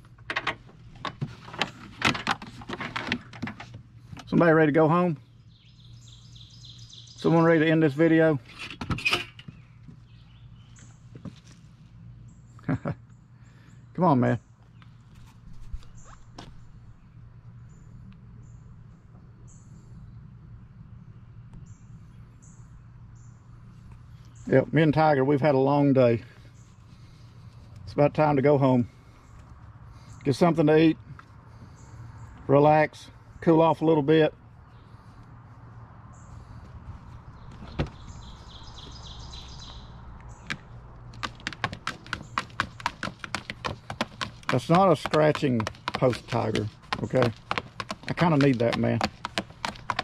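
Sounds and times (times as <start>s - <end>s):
songbird chirping: 3.1s - 8.4s, 9.0s - 50.0s.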